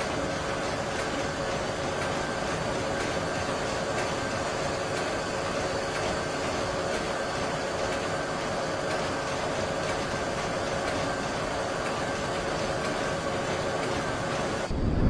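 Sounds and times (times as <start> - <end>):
mechanical drone with hum: 0.0 - 15.0.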